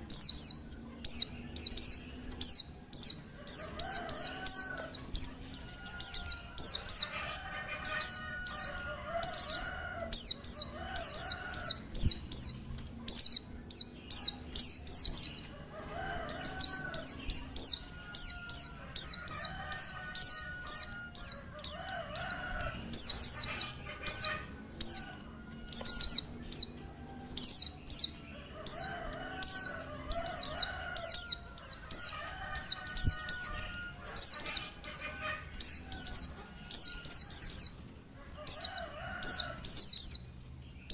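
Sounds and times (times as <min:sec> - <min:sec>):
fainter lower bird calls: 0:00.0 - 0:40.9.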